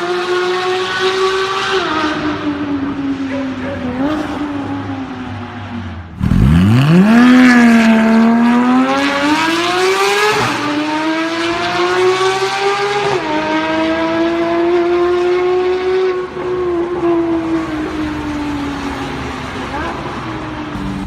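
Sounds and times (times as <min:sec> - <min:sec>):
sports car engine accelerating: 0:00.0 - 0:21.0.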